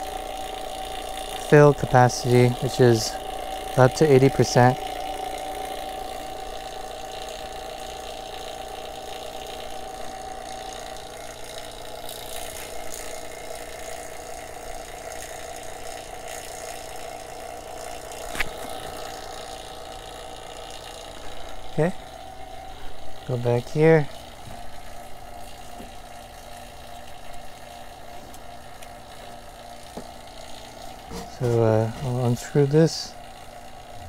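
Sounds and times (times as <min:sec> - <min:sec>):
vacuum pump humming: 0:00.0 - 0:34.0.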